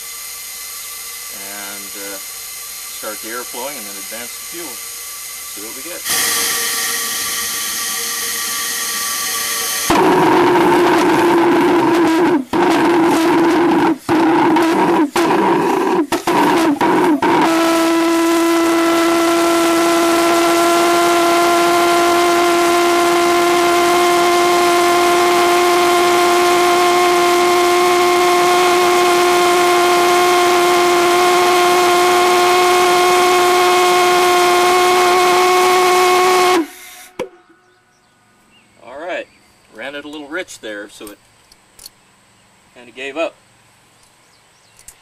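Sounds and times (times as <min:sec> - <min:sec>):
pulsejet engine droning: 0:00.0 - 0:38.2.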